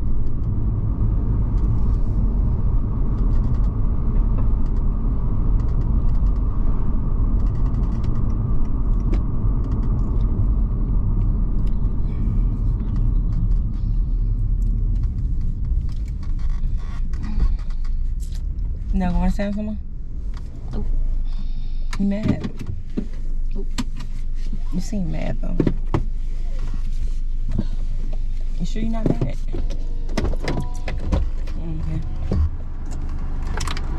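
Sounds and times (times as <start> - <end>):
car cabin low rumble: 0.0 - 33.9
faint clicks and rustles: 0.1 - 33.9.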